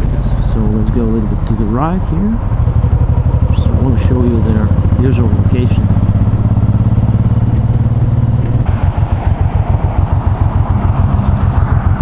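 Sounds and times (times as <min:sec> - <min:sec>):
motorcycle v-twin engine running: 0:00.0 - 0:12.0.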